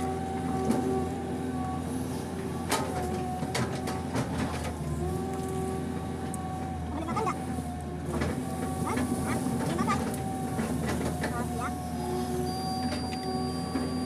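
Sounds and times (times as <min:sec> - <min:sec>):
excavator engine drone: 0:00.0 - 0:14.0.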